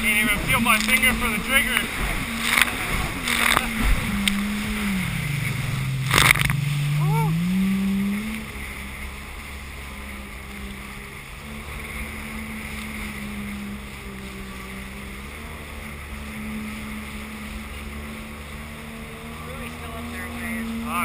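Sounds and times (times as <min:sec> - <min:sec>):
watercraft engine running: 0:00.0 - 0:21.0
wind and water rushing: 0:00.0 - 0:21.0.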